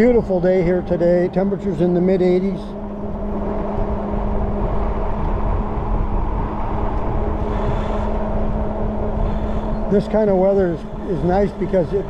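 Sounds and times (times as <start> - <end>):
electric bike hum: 0.0 - 12.0
wind rumble on microphone: 0.0 - 12.0.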